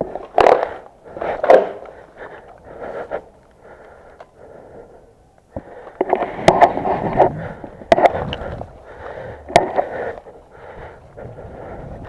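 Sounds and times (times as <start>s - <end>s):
heavy breathing: 0.0s - 12.0s.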